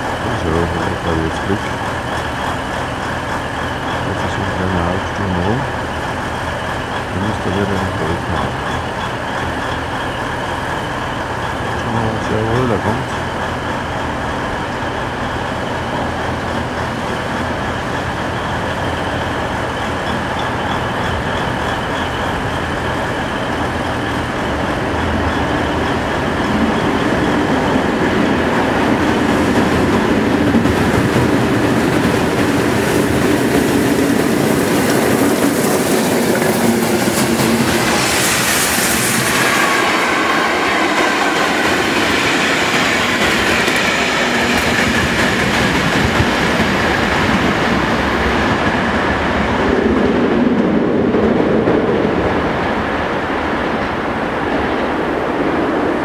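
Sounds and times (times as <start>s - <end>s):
high steady squealing: 0.0s - 47.7s
train rumble and clatter: 0.0s - 56.0s.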